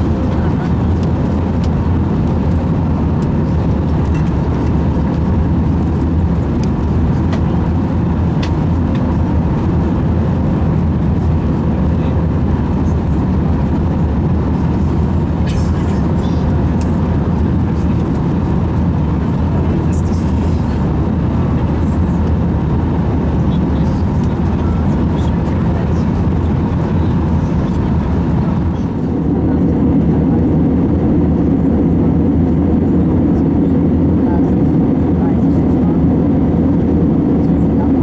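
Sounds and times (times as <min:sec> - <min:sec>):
aircraft cabin engine roar: 0:00.0 - 0:38.0.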